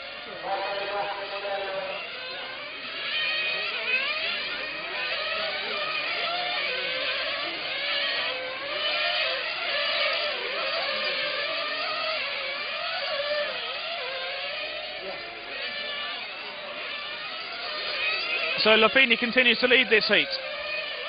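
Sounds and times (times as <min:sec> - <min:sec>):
model racing car engines screaming: 0:00.0 - 0:21.0.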